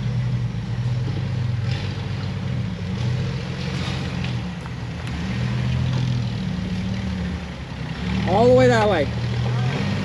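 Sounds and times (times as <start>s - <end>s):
vehicle engine at low revs: 0.0s - 10.0s.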